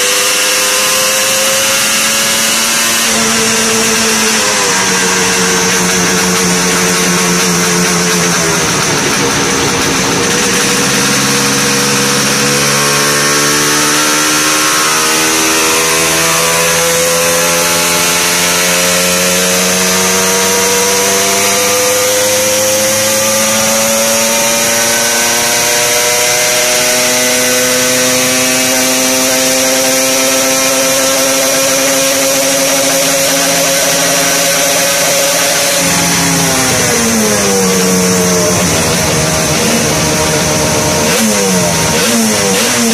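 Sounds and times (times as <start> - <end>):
two-stroke engine revving: 0.0 - 42.9.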